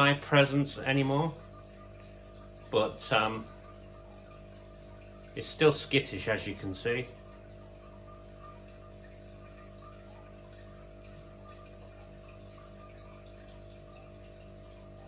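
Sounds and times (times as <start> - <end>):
aquarium filter humming: 0.0 - 15.0
faint trickling water: 0.0 - 15.0.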